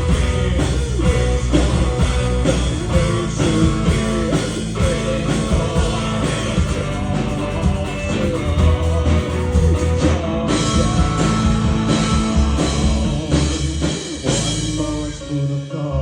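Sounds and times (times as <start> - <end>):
rock band playing: 0.0 - 15.8.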